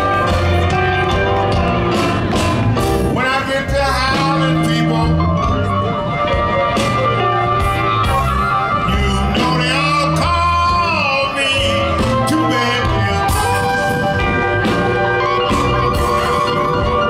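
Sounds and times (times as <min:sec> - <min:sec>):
amplified harmonica: 0:00.0 - 0:17.0
blues band playing: 0:00.0 - 0:17.0.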